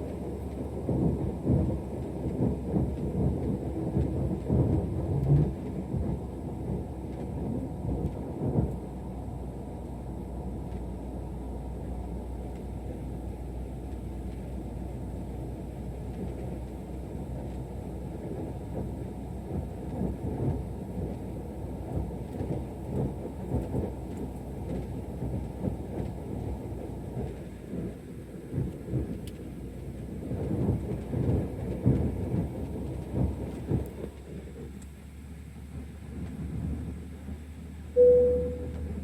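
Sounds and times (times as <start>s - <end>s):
airliner cabin rumble: 0.0s - 39.0s.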